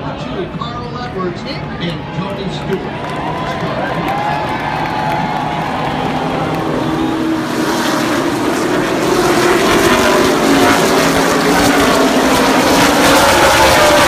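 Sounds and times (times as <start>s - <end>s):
stock car engines accelerating: 2.0s - 14.0s.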